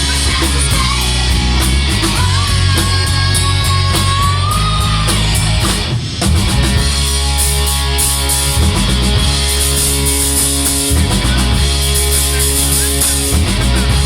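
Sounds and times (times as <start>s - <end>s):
distorted electric guitars: 0.0s - 14.0s
drum kit: 0.0s - 14.0s.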